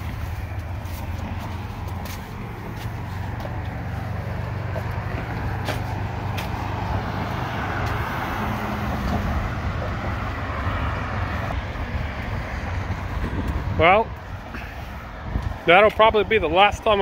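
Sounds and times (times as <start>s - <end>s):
road traffic engine rumble: 0.0s - 17.0s
tyre noise: 0.0s - 17.0s.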